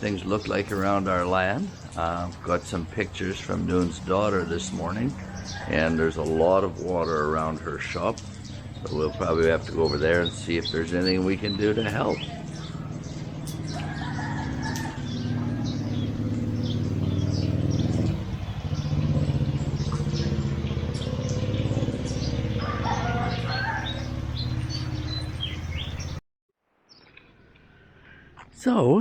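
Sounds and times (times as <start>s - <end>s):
small birds chirping: 0.0s - 26.2s, 26.8s - 29.0s
vehicle engine humming: 0.0s - 26.2s.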